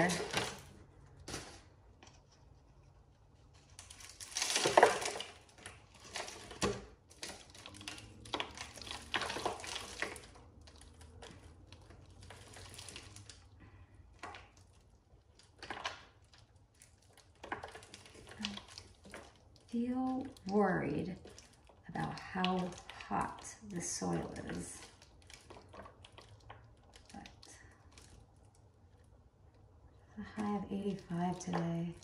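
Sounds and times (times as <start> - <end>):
dry soil crumbling and rustling: 0.0 - 2.4, 3.6 - 29.2, 30.2 - 32.0.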